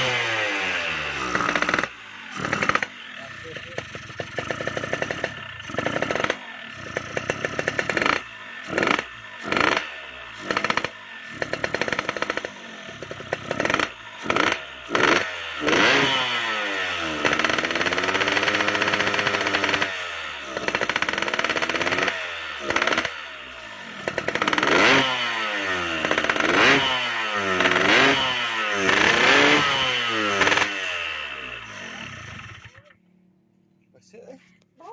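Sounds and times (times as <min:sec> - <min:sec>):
motorcycle engine revving: 0:00.0 - 0:33.2.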